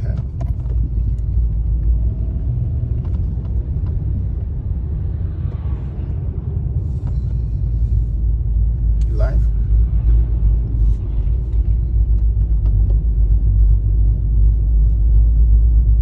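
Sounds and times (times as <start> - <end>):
vehicle driving on road: 0.0 - 16.0.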